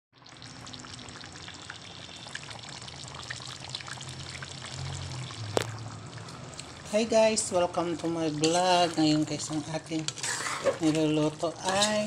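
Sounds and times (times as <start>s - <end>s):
stew bubbling and sizzling: 0.1s - 12.0s.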